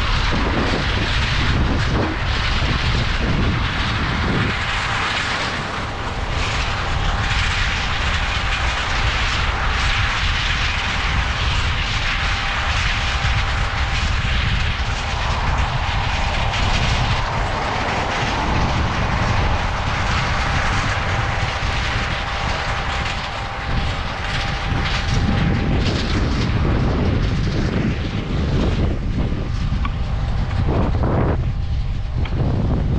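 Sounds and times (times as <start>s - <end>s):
diesel engine drone: 0.0s - 32.9s
steady machine whine: 0.0s - 32.9s.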